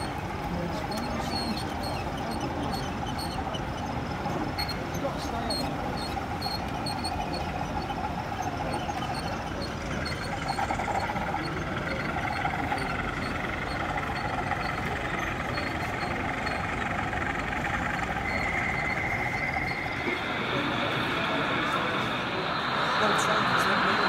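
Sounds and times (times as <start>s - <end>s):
model locomotive engine sound: 0.0s - 24.0s.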